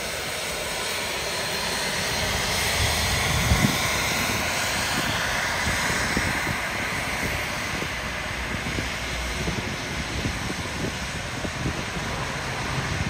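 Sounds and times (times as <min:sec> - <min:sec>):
airplane engines roaring: 0:00.0 - 0:13.0.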